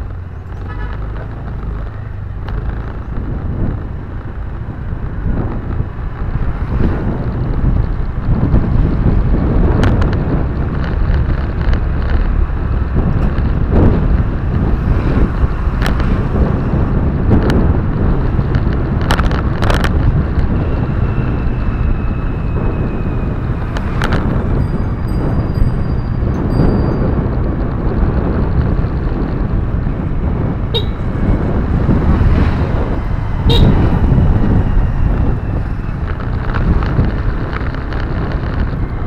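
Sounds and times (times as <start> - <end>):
car road rumble: 0.0 - 39.0
wind buffeting microphone: 0.0 - 39.0.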